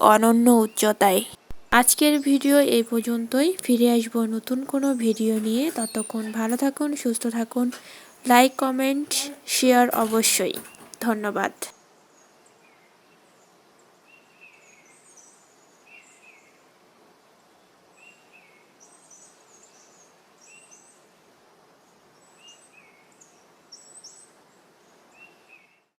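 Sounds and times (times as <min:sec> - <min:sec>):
faint birdsong: 0:00.0 - 0:16.8, 0:17.4 - 0:26.0
steady outdoor hiss: 0:00.0 - 0:26.0.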